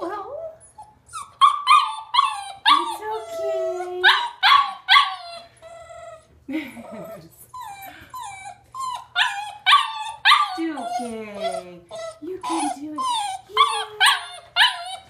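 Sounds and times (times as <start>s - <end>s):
puppy whining and yelping: 0.0s - 15.0s.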